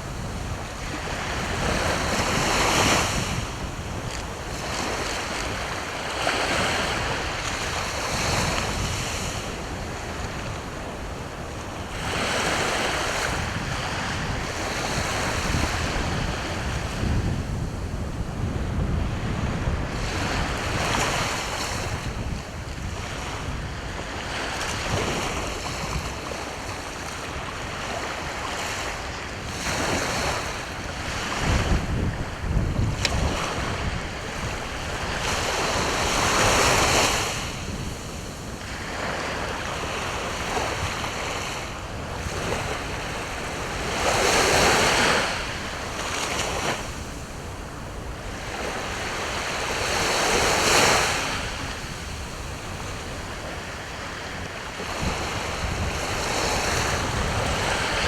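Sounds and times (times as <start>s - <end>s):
sea waves breaking on shore: 0.0s - 58.0s
wind rumbling on microphone: 0.0s - 58.0s.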